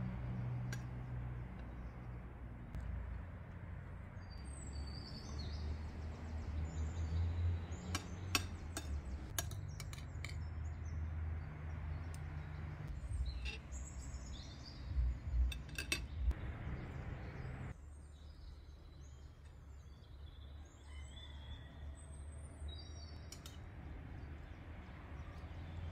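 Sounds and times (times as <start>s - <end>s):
birds chirping: 4.0s - 25.9s.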